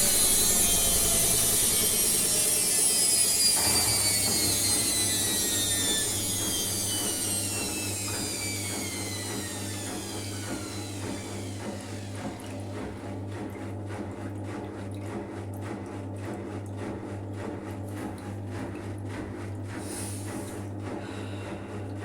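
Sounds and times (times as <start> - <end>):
washing machine drum whine: 0.0 - 22.0.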